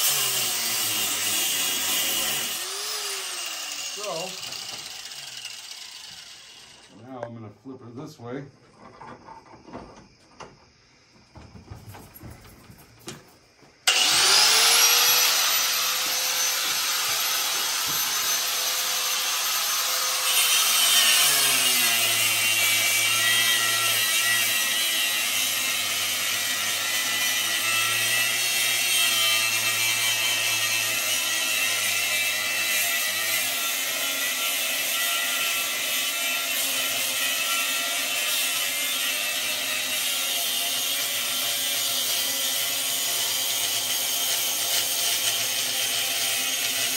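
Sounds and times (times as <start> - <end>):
angle grinder cutting steel: 0.0 - 7.0, 13.9 - 46.9.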